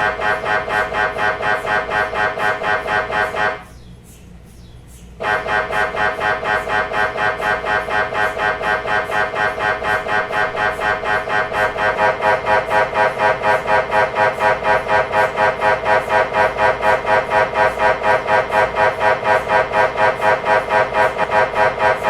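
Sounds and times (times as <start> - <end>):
mri scanner buzzing pulses: 0.0 - 3.8, 5.2 - 22.0.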